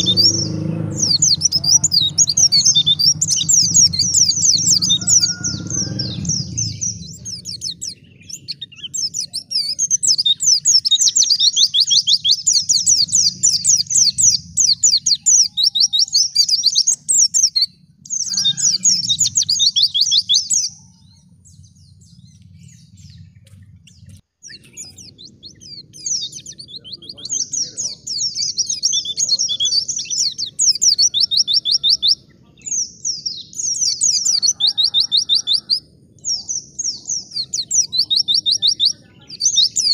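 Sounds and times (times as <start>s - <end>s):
bird chattering twitters: 0.0s - 39.9s.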